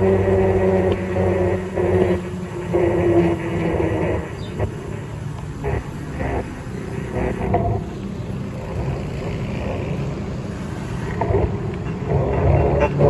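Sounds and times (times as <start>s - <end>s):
road noise from moving bike: 0.0s - 13.0s.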